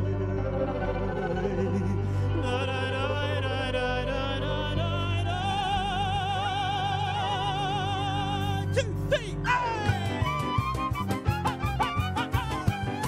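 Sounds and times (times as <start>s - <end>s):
musical accompaniment: 0.0s - 13.0s.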